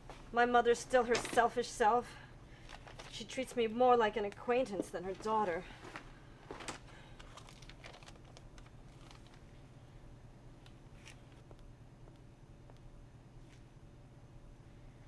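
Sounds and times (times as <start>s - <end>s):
low room tone hum: 0.0s - 15.0s.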